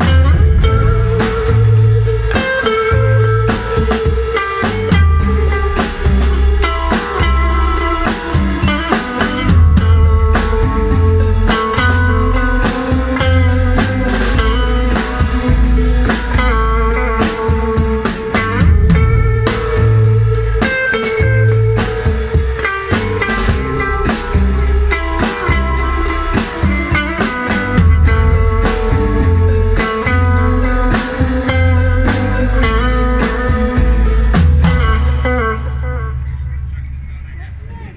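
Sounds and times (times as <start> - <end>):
drums and cymbal: 0.0 - 35.5
amplified electric guitar: 0.0 - 37.9.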